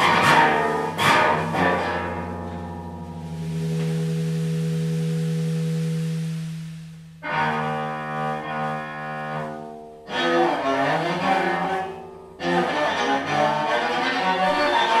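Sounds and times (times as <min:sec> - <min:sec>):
cello bowed long notes: 0:00.0 - 0:15.0.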